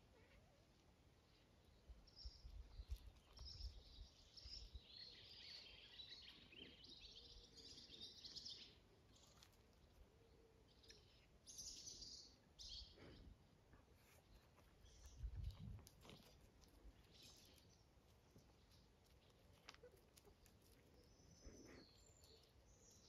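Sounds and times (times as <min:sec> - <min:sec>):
faint songbird twittering: 0:01.2 - 0:23.0.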